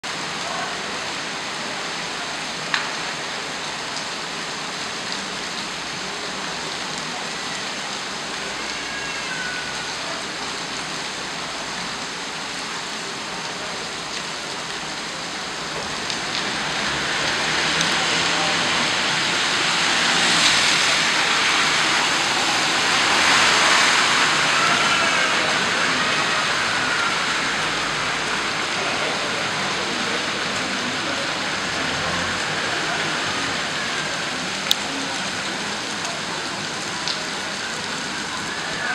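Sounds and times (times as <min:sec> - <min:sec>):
heavy rain and hail on pavement: 0:00.0 - 0:38.9.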